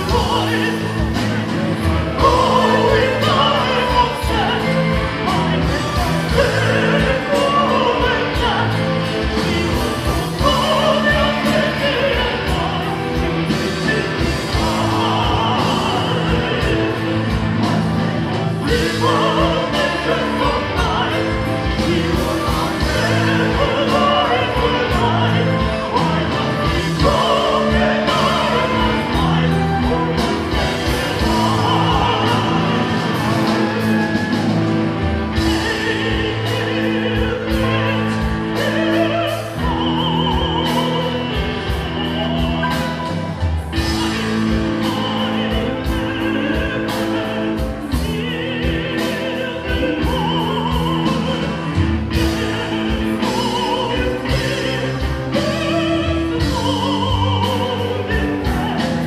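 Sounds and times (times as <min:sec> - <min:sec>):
drums: 0:00.0 - 0:59.0
guitars: 0:00.0 - 0:59.0
person singing: 0:00.0 - 0:59.0.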